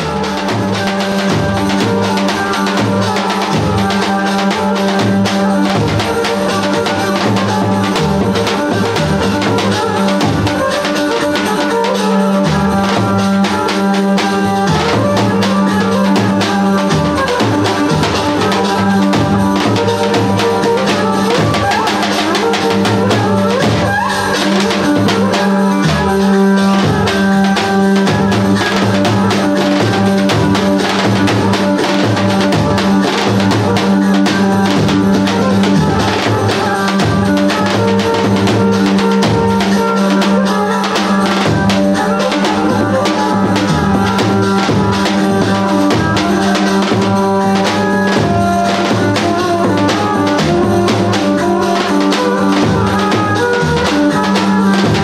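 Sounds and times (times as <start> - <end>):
music with drum beat and bass: 0.0 - 55.0.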